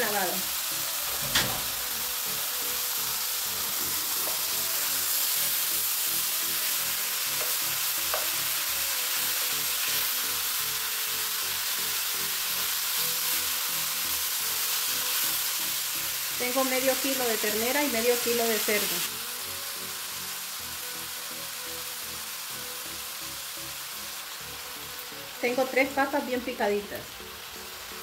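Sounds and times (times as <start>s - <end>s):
meat sizzling in a frying pan: 0.0s - 28.0s.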